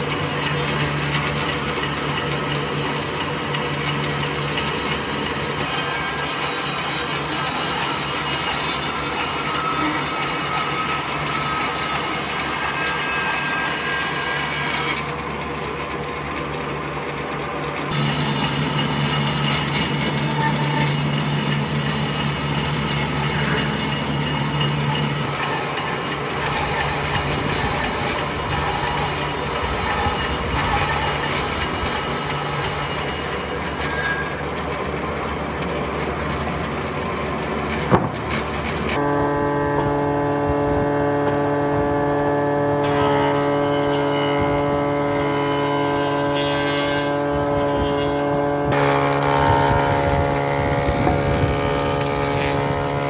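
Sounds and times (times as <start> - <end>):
power tools grinding wood: 0.0 - 15.1, 17.9 - 35.9, 42.8 - 53.0.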